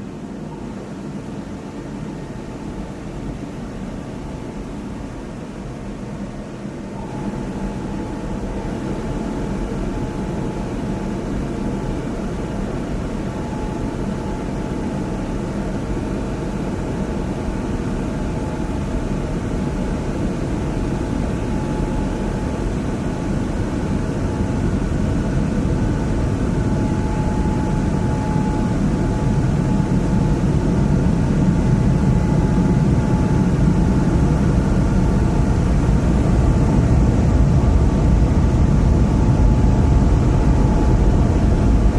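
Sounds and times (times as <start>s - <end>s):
muffled car wash water and machinery: 0.0s - 41.9s.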